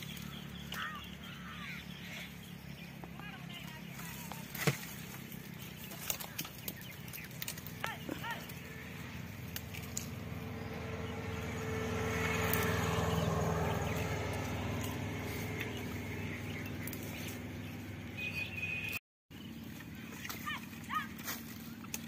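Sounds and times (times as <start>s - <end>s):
motor engine hum: 0.0s - 22.0s.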